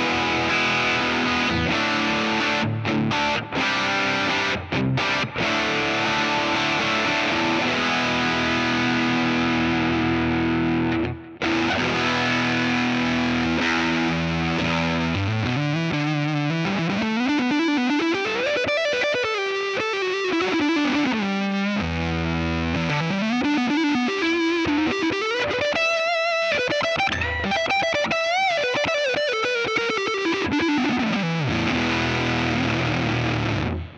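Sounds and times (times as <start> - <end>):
driven electric guitar: 0.0 - 33.9.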